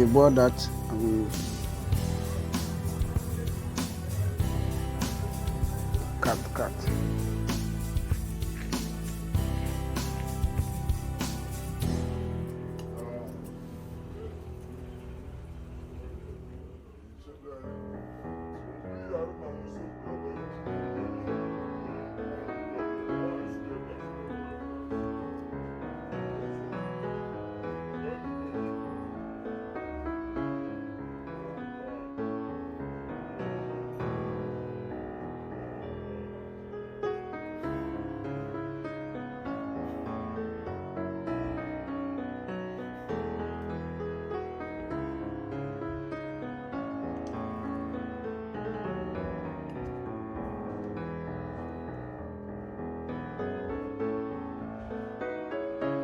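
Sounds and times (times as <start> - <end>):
background piano music: 0.0 - 56.0.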